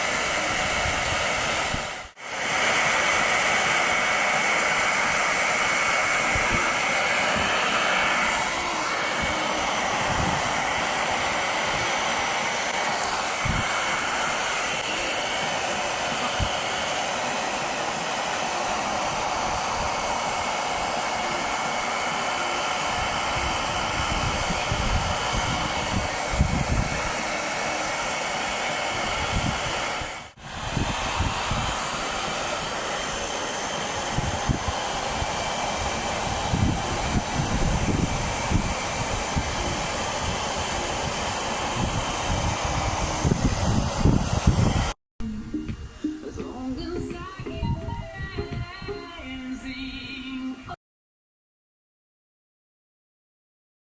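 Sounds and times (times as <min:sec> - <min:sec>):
hair dryer blowing: 0:00.0 - 0:50.8.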